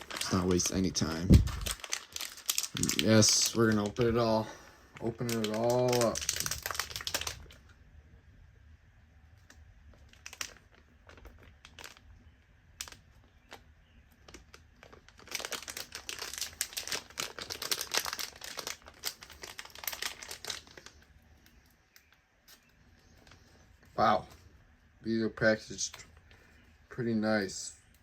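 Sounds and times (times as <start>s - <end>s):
packaging crinkling and rustling: 0.0s - 7.8s, 9.3s - 24.5s.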